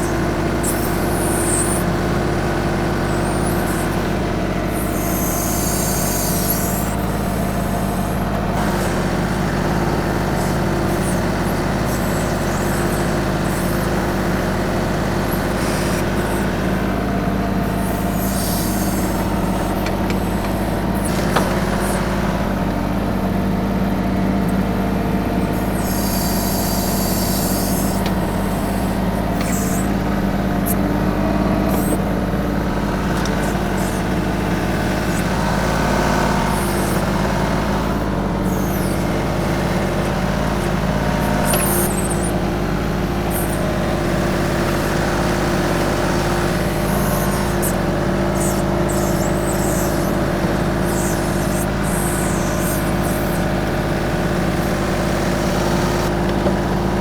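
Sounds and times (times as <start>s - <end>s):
backhoe squeaks and clinks: 0.0s - 57.0s
tractor diesel engine running: 0.0s - 57.0s.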